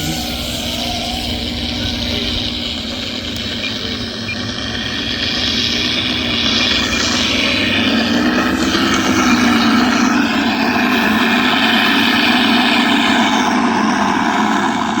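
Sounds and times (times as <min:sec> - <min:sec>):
model propeller noise: 0:00.0 - 0:15.0
simulated engine rumble from speaker: 0:00.0 - 0:15.0.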